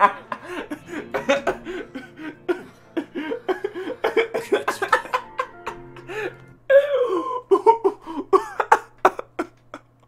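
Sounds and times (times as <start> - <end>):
man laughing: 0.0 - 10.0.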